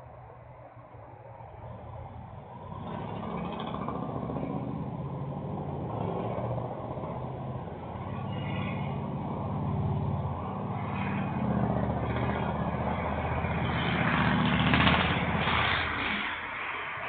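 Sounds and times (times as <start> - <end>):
misfiring engine driving past: 2.4 - 16.9.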